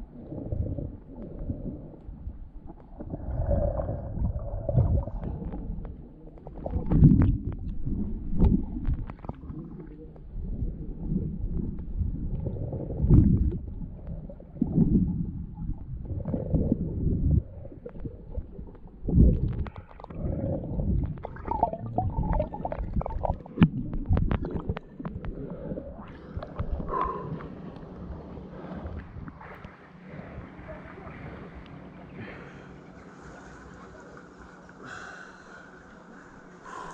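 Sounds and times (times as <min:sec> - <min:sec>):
muffled water gurgling and sloshing: 0:00.0 - 0:36.9.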